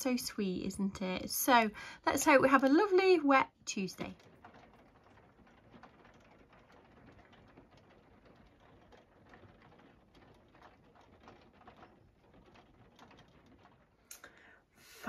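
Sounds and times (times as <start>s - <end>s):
faint rain patter: 0.0s - 15.0s.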